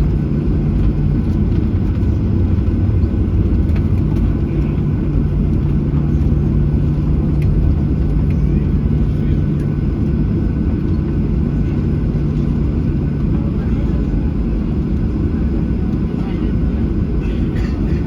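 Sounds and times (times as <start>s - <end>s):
jet engines and airflow in cabin: 0.0s - 18.0s.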